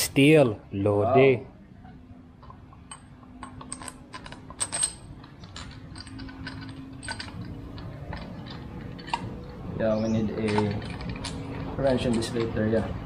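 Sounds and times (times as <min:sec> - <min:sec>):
small steel parts clinking: 0:02.4 - 0:13.0.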